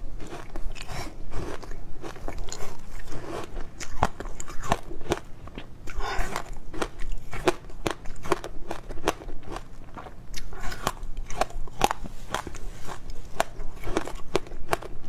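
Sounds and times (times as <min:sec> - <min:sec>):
frozen fruit crunching when chewed: 0:00.0 - 0:15.0.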